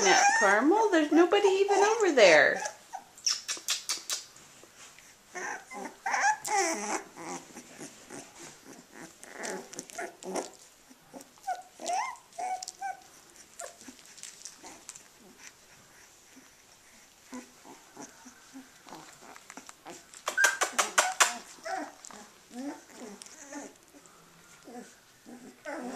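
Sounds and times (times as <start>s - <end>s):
puppies whimpering and yipping: 0.0s - 25.9s.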